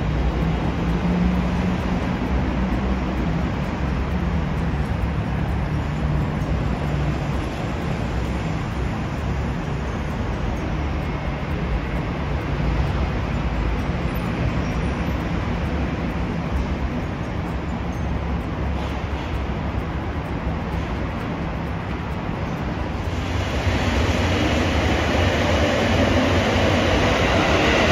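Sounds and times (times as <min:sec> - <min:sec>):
low hum: 0:00.0 - 0:27.9
train rumbling past: 0:00.0 - 0:27.9.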